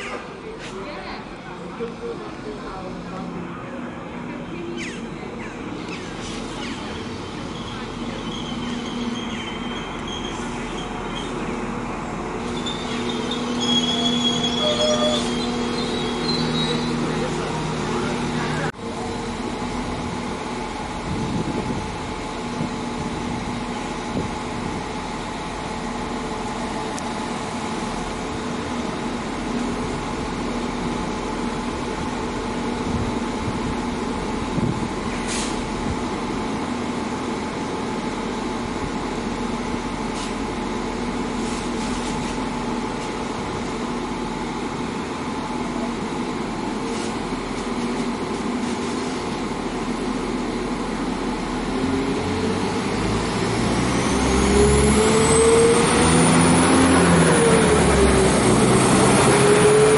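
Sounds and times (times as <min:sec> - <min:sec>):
diesel train engines idling: 0:00.0 - 0:59.9.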